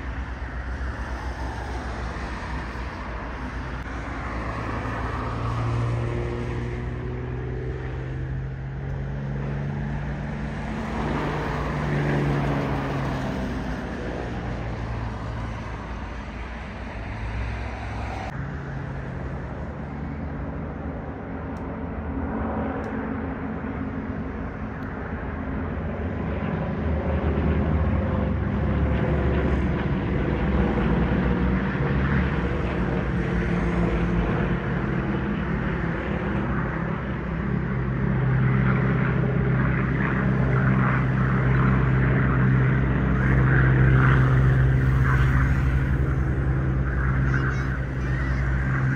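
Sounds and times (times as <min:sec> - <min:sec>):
propeller aircraft engine drone: 0:00.0 - 0:48.9.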